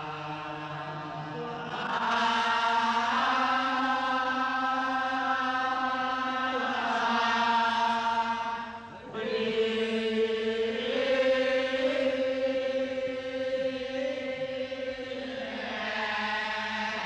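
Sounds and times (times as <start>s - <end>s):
sustained chanting: 0.0s - 17.0s.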